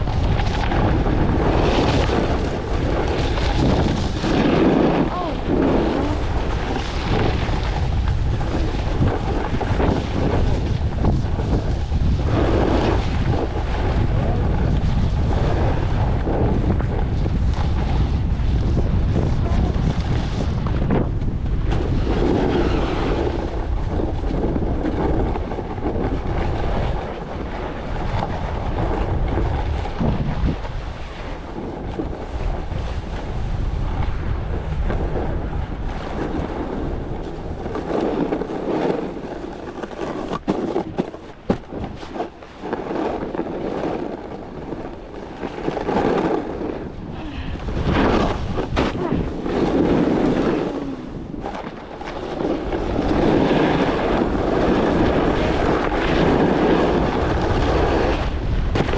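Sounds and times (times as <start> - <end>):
skis scraping on snow: 0.0 - 58.9
wind over microphone: 0.0 - 58.9.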